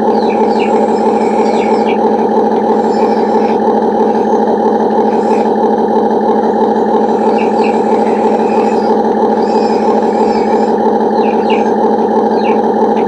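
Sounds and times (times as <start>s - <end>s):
toy excavator motors whining: 0.0s - 13.0s.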